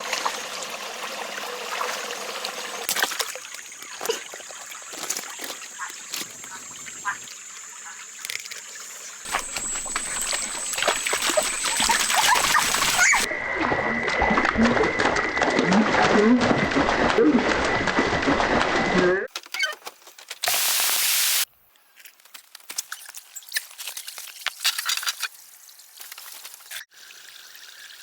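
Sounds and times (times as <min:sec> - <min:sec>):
water trickling and splashing: 0:00.0 - 0:18.8, 0:23.2 - 0:28.0.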